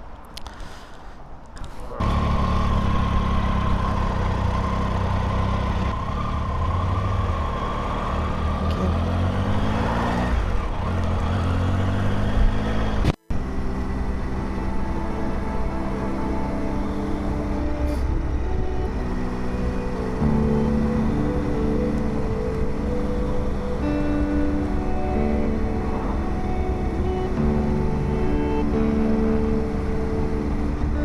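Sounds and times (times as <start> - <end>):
motorcycle engine running: 2.0 - 31.0.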